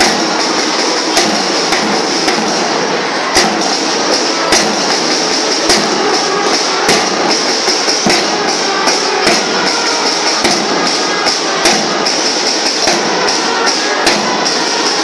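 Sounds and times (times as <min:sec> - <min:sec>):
bass drum and cymbal hits: 0:00.0 - 0:15.0
fast snare drumming: 0:00.0 - 0:15.0.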